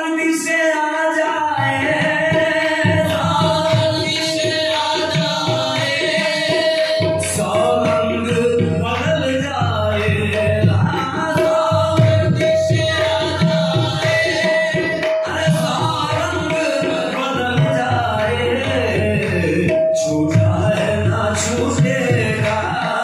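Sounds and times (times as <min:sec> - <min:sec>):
person singing devotional song: 0:00.0 - 0:23.0
tabla: 0:00.0 - 0:23.0.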